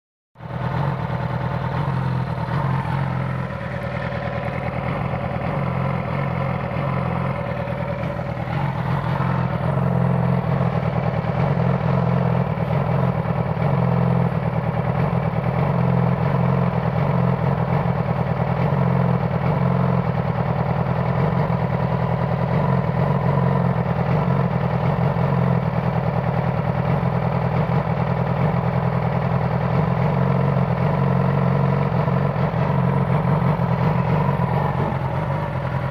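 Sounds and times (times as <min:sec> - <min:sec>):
motorcycle engine idling with misfire: 0:00.4 - 0:35.9.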